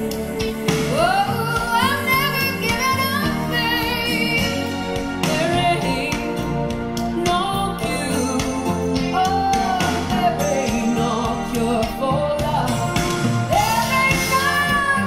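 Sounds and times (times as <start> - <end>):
guitar and band backing: 0.0 - 15.0
woman singing: 0.0 - 15.0.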